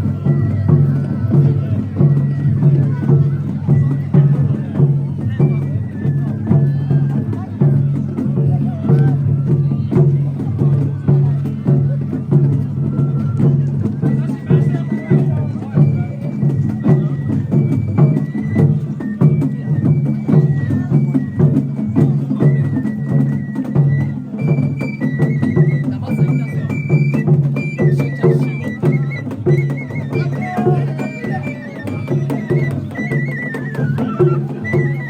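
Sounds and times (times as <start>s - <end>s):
high flute melody: 0.0s - 11.8s, 12.4s - 35.0s
drums beating a steady rhythm: 0.0s - 35.0s.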